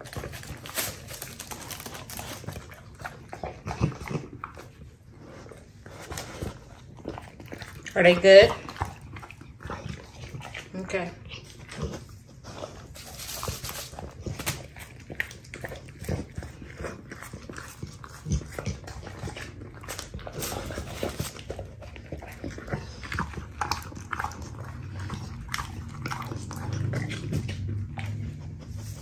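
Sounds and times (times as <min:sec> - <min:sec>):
dog chewing food: 0:00.0 - 0:29.0.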